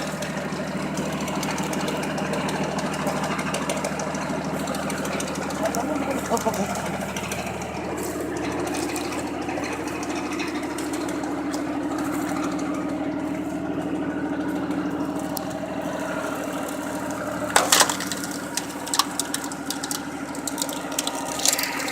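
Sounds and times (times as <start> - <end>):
log cracking and splitting: 0.0 - 21.9
tractor-driven splitter humming: 0.0 - 21.9
wood cracks: 0.0 - 21.9.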